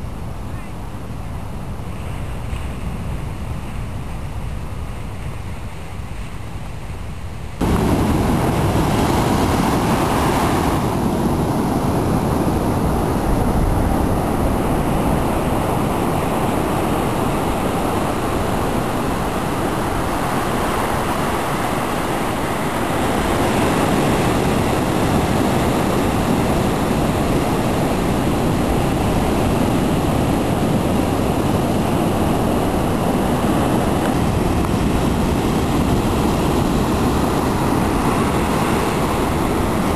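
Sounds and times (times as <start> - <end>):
ocean surf washing up beach: 0.0 - 39.9
wind on microphone: 0.0 - 39.9.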